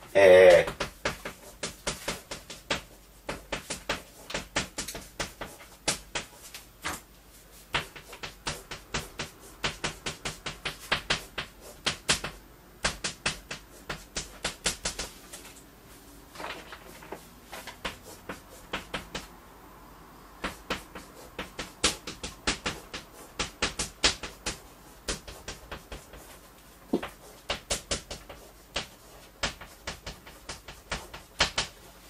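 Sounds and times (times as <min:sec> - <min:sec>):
chalk writing on blackboard: 0:00.7 - 0:15.3, 0:17.1 - 0:19.3, 0:20.4 - 0:32.0.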